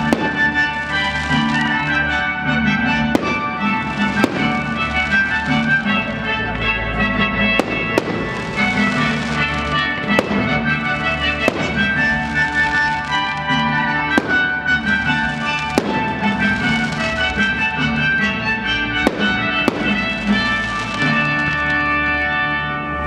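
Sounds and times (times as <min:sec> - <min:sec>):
fireworks bangs: 0:00.0 - 0:22.0
loud music: 0:00.0 - 0:23.0.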